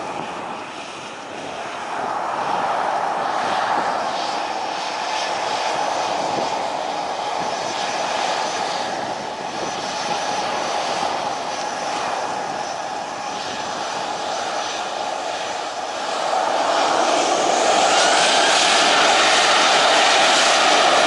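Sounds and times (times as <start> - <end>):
aircraft engines running: 0.0 - 21.0.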